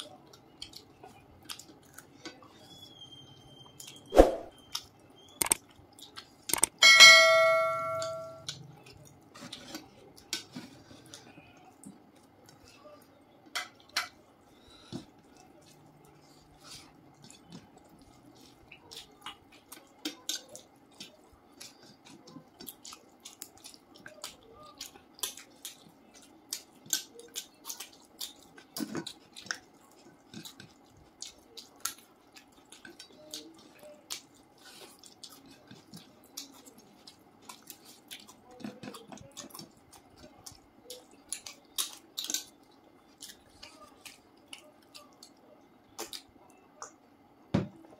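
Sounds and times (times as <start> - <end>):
wet chewing and mouth clicks: 0.0 - 6.8, 8.0 - 12.6, 14.9 - 47.3.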